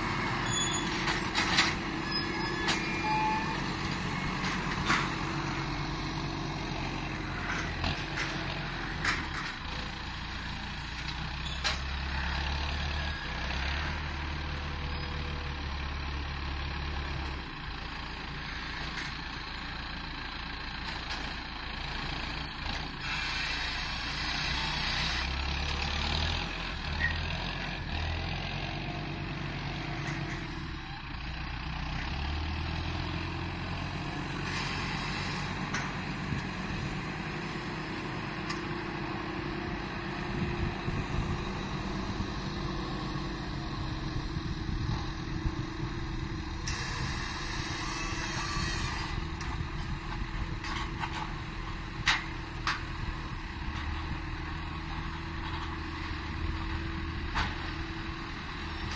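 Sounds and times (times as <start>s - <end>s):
heavy vehicle engine running: 0.0s - 58.9s.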